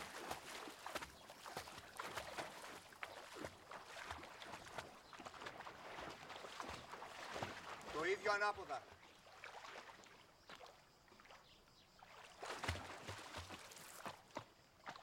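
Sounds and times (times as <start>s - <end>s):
water splashing in a pool: 0.0s - 15.0s.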